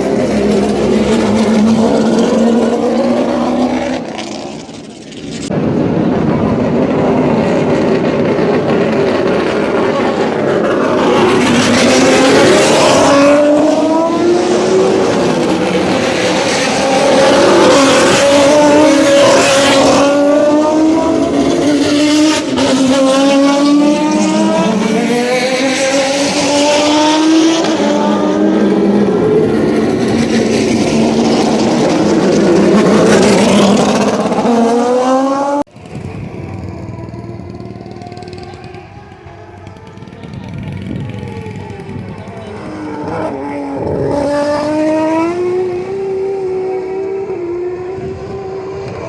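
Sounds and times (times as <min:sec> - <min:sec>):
race car engines at full throttle: 0:00.0 - 0:49.0.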